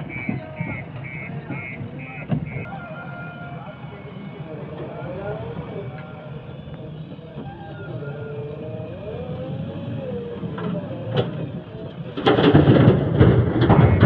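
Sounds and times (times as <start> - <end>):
backhoe diesel engine running: 0.0 - 14.0.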